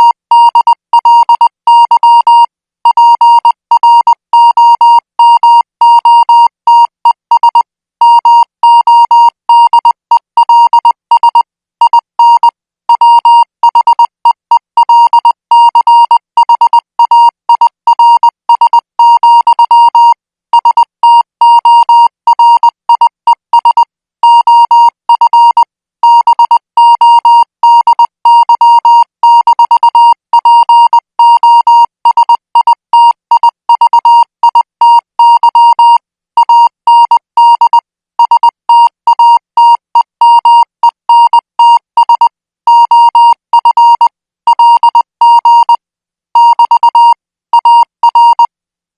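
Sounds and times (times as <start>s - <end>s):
morse code tone: 0.0s - 45.8s, 46.4s - 48.5s.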